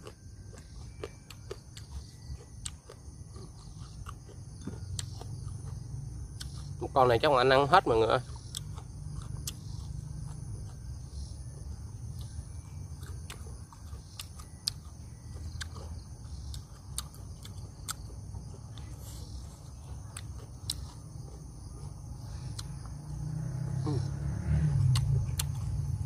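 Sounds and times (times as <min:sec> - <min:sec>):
person chewing: 0:00.0 - 0:06.8, 0:08.2 - 0:22.9, 0:24.8 - 0:25.8
insects droning: 0:00.0 - 0:26.0.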